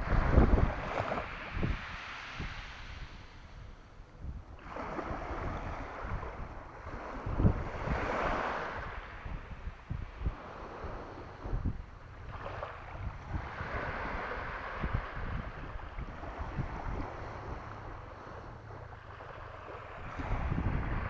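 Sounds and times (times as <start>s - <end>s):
sea waves washing: 0.0s - 21.0s
wind buffeting the microphone: 0.0s - 21.0s.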